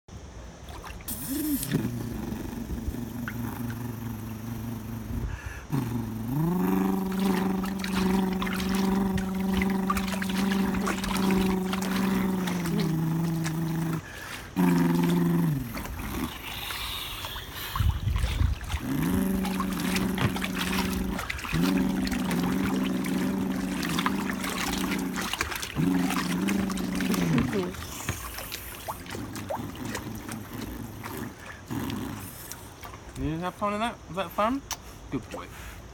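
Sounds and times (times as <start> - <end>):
water sloshing and splashing: 0.2 - 34.1
man imitating boat engine: 1.1 - 32.4.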